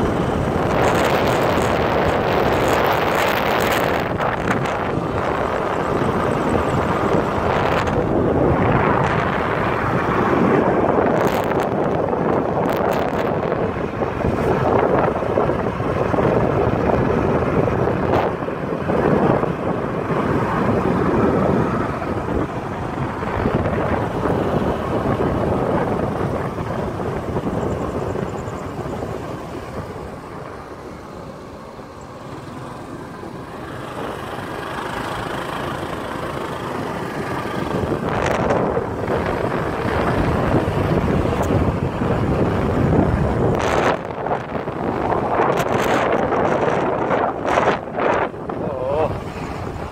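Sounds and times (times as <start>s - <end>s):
traffic noise: 0.0s - 49.9s
wind on microphone: 0.0s - 49.9s.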